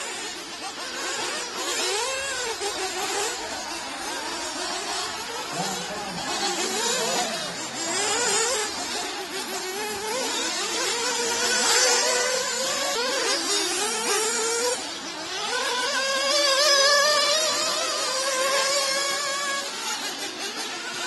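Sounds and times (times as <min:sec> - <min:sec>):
rc car engines whining: 0:00.0 - 0:21.0.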